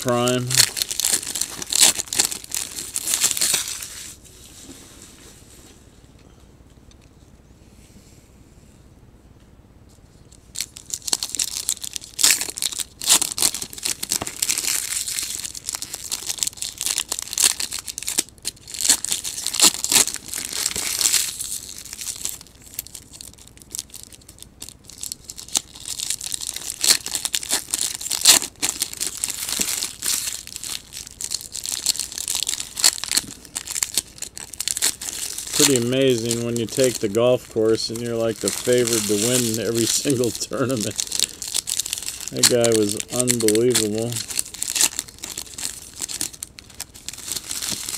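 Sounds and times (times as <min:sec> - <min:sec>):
foil wrappers tearing and crinkling: 0:00.0 - 0:04.2, 0:10.5 - 0:47.9.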